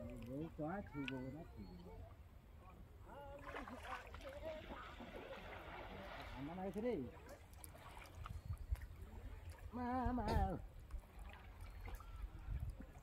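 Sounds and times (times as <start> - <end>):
water trickling and lapping: 0.0 - 13.0.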